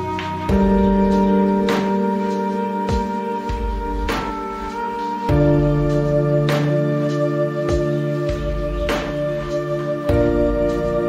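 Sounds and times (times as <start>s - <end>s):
soft background music chords: 0.0s - 11.0s.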